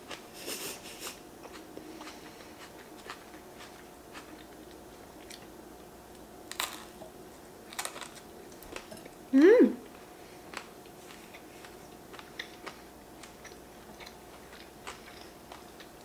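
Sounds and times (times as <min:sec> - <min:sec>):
person chewing crunchy food: 0:01.1 - 0:09.2, 0:09.8 - 0:16.0.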